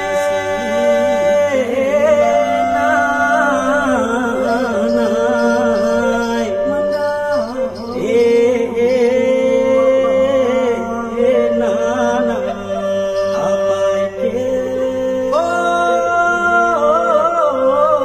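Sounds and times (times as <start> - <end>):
music with wavering held notes: 0.0 - 18.0.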